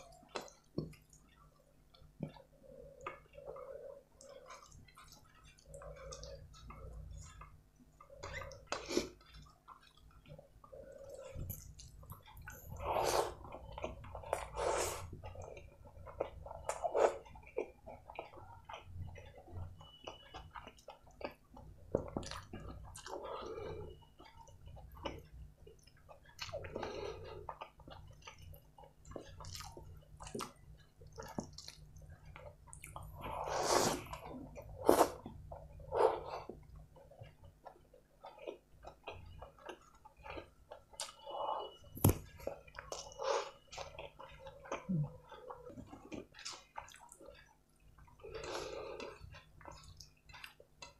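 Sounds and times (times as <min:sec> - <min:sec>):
wet chewing and mouth noises: 0:00.0 - 0:50.9.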